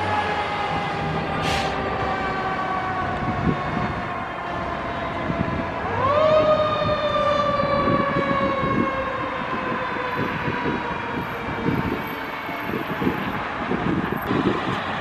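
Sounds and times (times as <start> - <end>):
fire engine siren: 0.0 - 15.0.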